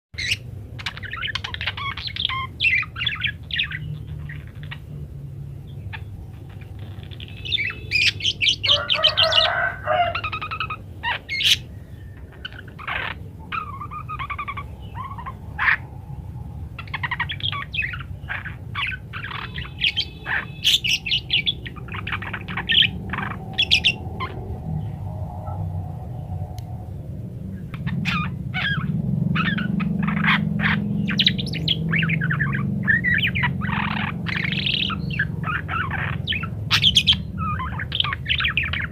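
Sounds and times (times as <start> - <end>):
budgerigar chattering: 0.2 - 4.9, 5.8 - 15.9, 16.8 - 24.4, 27.8 - 38.9
steady low hum: 0.2 - 38.9.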